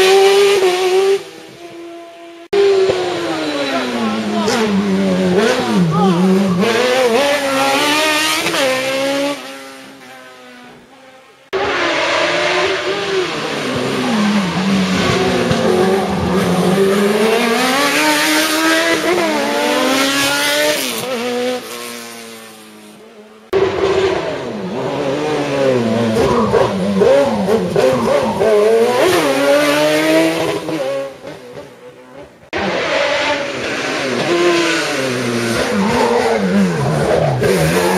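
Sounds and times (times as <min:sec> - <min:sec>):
race car engines revving: 0:00.0 - 0:37.9.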